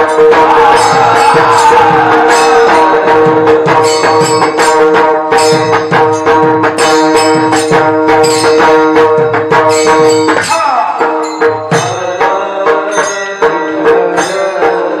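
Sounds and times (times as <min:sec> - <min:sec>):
drum playing steady beat: 0:00.0 - 0:15.0
small hand cymbals jingling: 0:00.1 - 0:15.0.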